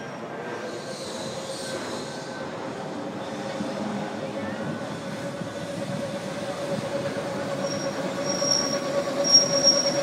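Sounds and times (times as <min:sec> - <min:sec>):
tram running low tone: 0:00.0 - 0:10.0
tram wheels squealing on rails: 0:00.0 - 0:10.0.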